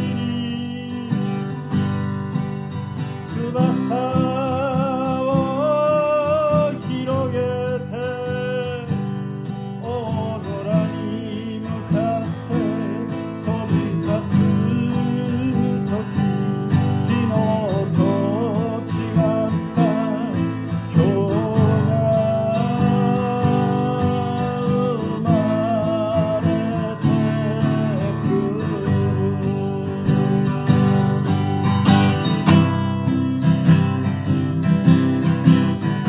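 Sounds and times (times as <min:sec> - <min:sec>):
acoustic guitar strumming: 0:00.0 - 0:36.0
man singing: 0:00.0 - 0:36.0.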